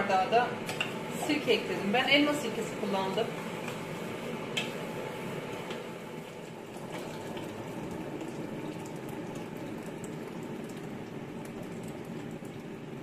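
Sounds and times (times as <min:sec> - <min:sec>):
water boiling: 0:00.0 - 0:13.0.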